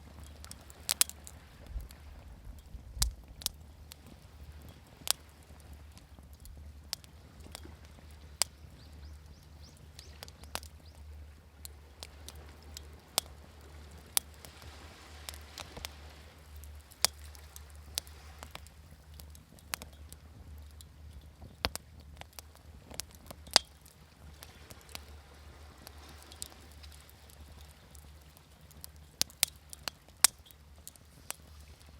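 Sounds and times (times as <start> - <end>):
fire popping: 0.0 - 31.9
waves washing softly: 0.0 - 31.9
wood fire crackling: 0.0 - 31.9.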